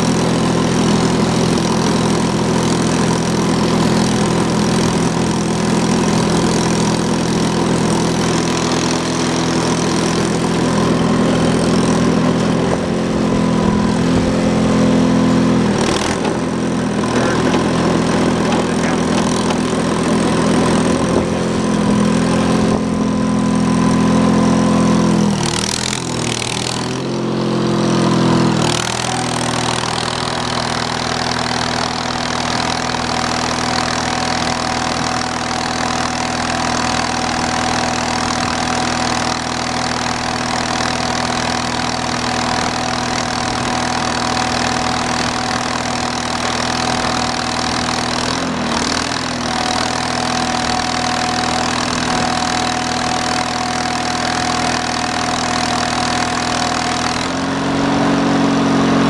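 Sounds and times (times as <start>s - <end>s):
gas engine running under load: 0.0s - 59.0s.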